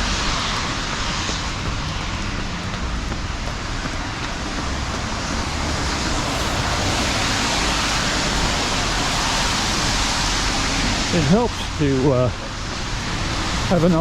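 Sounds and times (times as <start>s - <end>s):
deep rumble: 0.0s - 11.8s
rain: 0.0s - 14.0s
traffic hiss on wet road: 0.0s - 14.0s.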